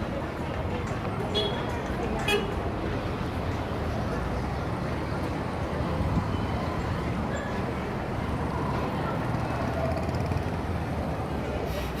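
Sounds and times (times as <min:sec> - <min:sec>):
faint distant voices: 0:00.0 - 0:12.0
heavy traffic rumble: 0:00.0 - 0:12.0.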